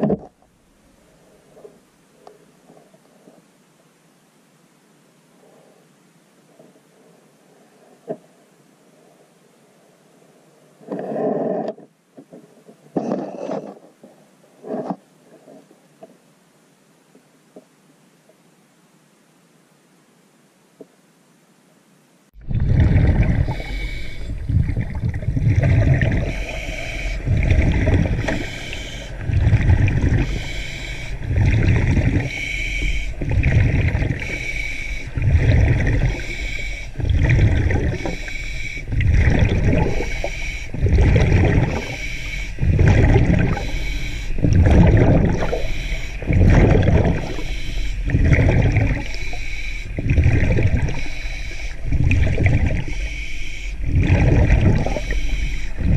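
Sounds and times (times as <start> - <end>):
underwater gurgling and sloshing: 0.0 - 16.3, 22.4 - 55.9.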